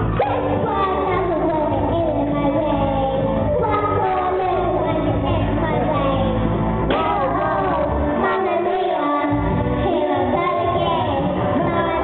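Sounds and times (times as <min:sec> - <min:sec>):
backing track music: 0:00.0 - 0:12.0
girl singing into microphone: 0:00.2 - 0:12.0.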